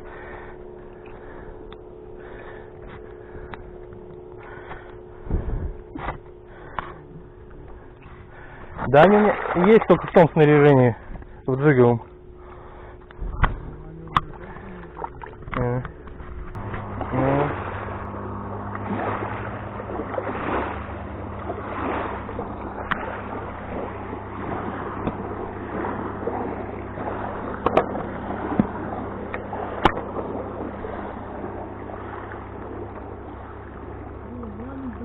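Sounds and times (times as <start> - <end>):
motor humming: 0.0 - 35.0
water splashing: 5.8 - 11.0, 11.7 - 35.0.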